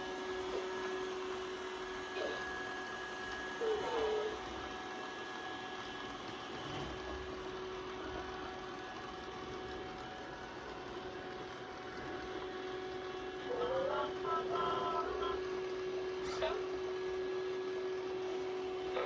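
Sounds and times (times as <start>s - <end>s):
robot vacuum cleaner whirring: 0.0s - 19.0s.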